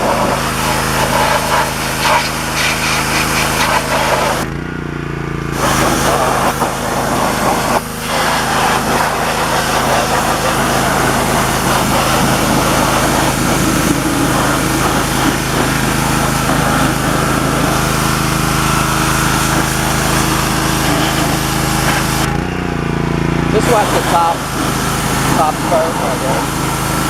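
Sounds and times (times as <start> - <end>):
water jet hissing: 0.0 - 4.5, 5.6 - 22.3, 23.5 - 27.0
pressure washer motor droning: 0.0 - 27.0.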